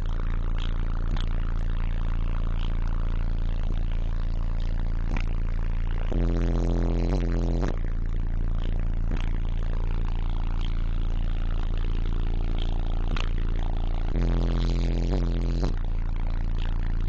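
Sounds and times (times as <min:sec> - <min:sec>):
loud bass-heavy music: 0:00.0 - 0:17.0.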